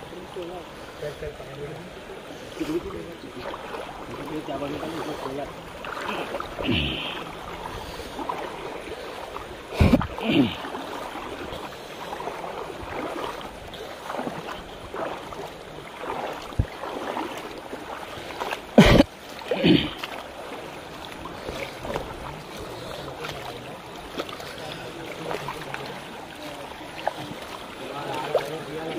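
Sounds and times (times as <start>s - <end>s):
people wading through water: 0.0s - 28.9s
water splashing: 0.0s - 28.9s.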